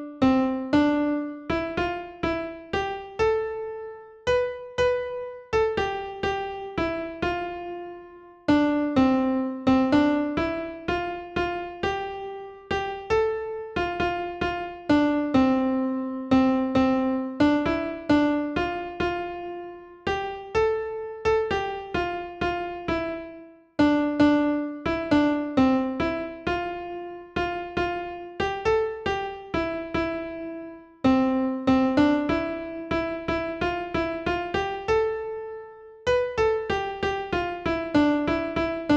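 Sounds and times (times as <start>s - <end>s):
gentle piano-like melody: 0.0s - 38.9s.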